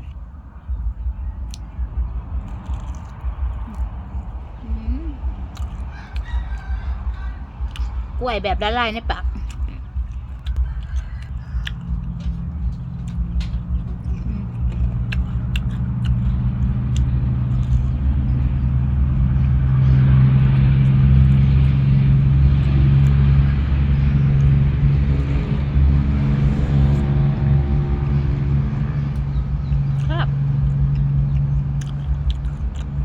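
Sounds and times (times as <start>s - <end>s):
vehicle engine low hum: 0.0s - 33.0s.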